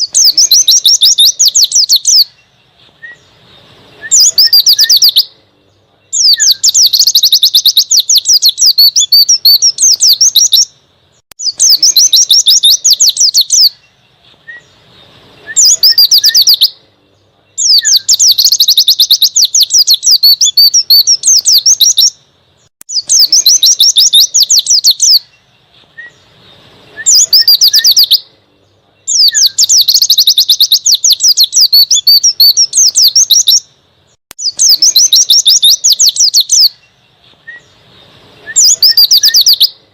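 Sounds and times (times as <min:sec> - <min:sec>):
bird high twittering song: 0:00.0 - 0:39.9.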